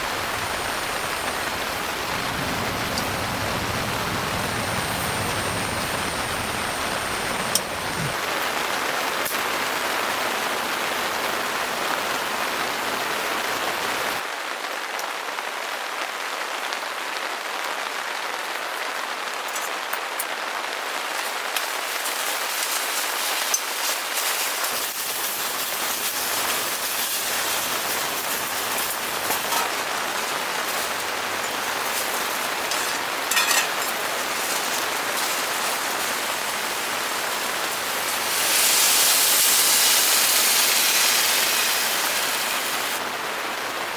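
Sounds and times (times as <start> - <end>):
heavy rain on a tent: 0.0 - 43.9.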